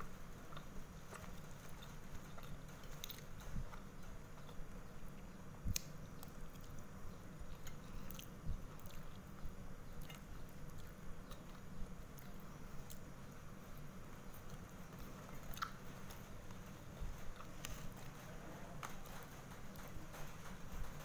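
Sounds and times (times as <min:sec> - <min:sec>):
low steady hum: 0:00.0 - 0:21.0
person chewing food: 0:00.0 - 0:21.0
sharp eating clicks: 0:00.1 - 0:21.0.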